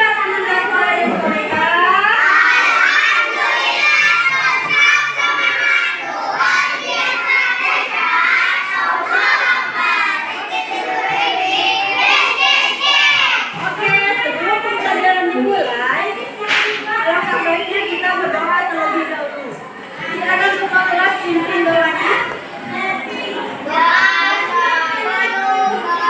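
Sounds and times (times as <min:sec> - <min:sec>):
children talking and shouting: 0:00.0 - 0:26.0.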